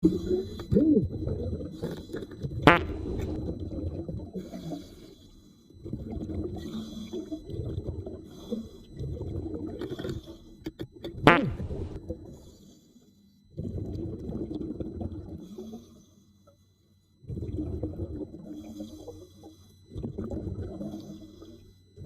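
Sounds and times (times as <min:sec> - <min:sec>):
underwater rumbling and bubbling: 0:00.0 - 0:05.0, 0:05.7 - 0:12.4, 0:13.6 - 0:15.8, 0:17.2 - 0:21.6.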